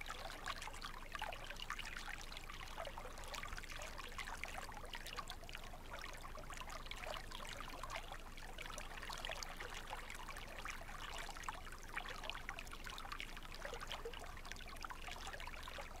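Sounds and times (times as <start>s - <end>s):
stream water babbling: 0.0s - 16.0s.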